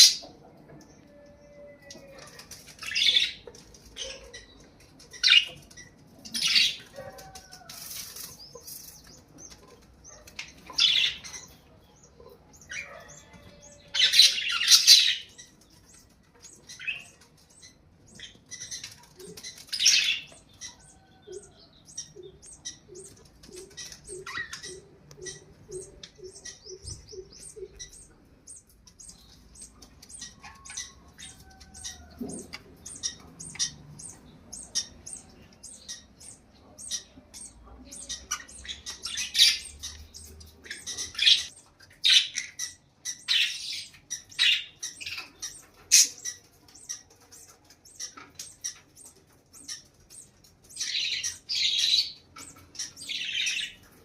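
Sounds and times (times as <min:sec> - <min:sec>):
bird chirps and calls: 0:00.0 - 0:54.0
repeated low bird calls: 0:00.0 - 0:54.0.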